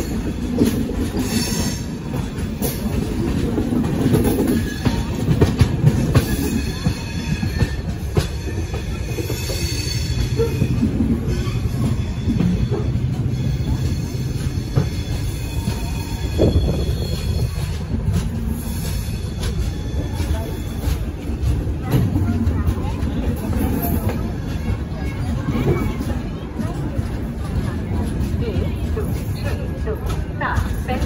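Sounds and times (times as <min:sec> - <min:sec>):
clacks over rail joints: 0:00.0 - 0:31.0
train wheels rumbling on rail: 0:00.0 - 0:31.0.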